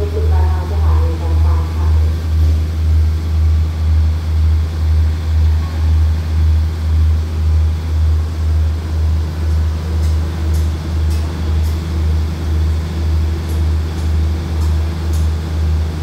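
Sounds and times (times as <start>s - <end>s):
train diesel engine idling: 0.0s - 16.0s.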